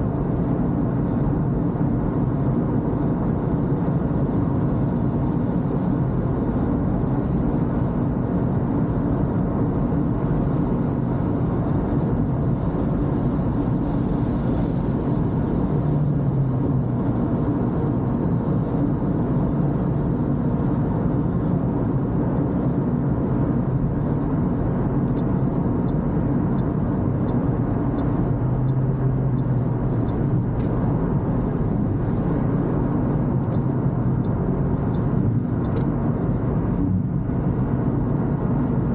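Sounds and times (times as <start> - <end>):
car driving on wet road: 0.0 - 38.9.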